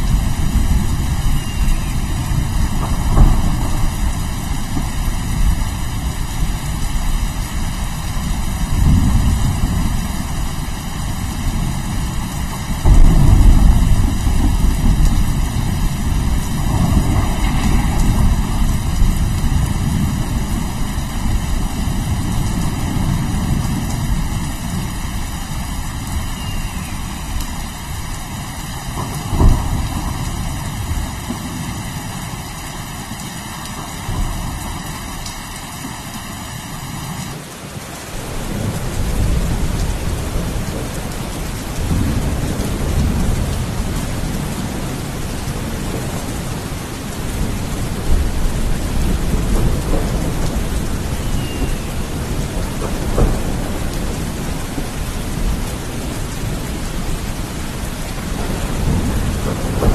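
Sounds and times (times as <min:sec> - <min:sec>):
thunder rumbles: 0:00.0 - 0:37.4, 0:38.1 - 0:59.9
heavy rain: 0:00.0 - 0:59.9.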